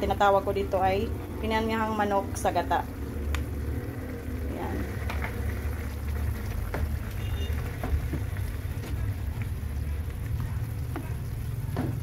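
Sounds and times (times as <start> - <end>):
food bubbling in a pan: 0.0 - 12.0
steady low hum: 0.0 - 12.0.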